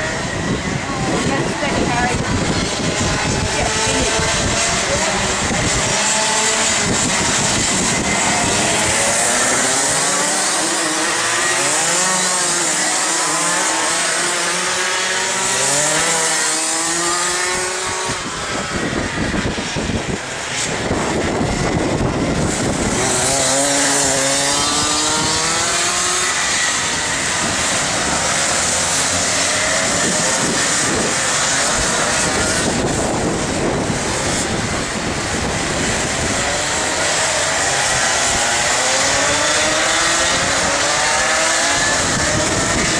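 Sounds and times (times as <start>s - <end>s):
constant rushing noise: 0.0s - 42.9s
kart engines buzzing: 0.0s - 42.9s.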